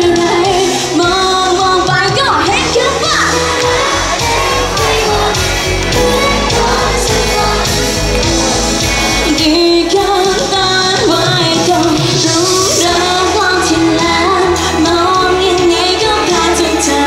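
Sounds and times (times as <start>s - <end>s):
live pop band music: 0.0s - 17.0s
woman singing: 0.0s - 17.0s.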